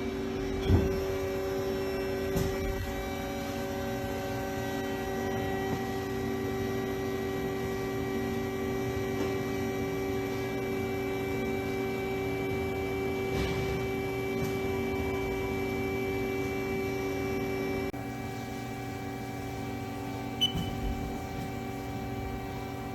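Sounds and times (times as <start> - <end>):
lathe machine hum and whine: 0.0 - 22.9.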